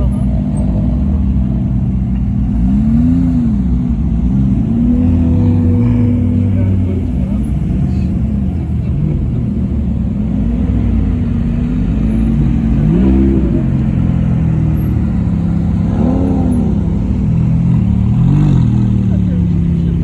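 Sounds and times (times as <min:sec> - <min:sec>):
car engines running: 0:00.0 - 0:20.0
engine revving: 0:00.0 - 0:20.0.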